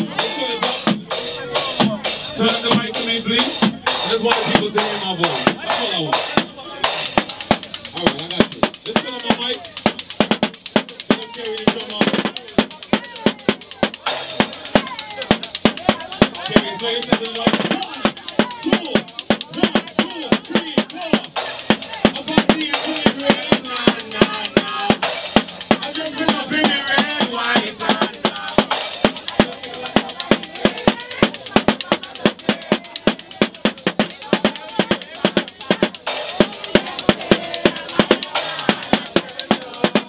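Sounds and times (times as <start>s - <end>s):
drumming on snare and cymbal: 0.0s - 40.0s
loud soca party music: 0.0s - 40.0s.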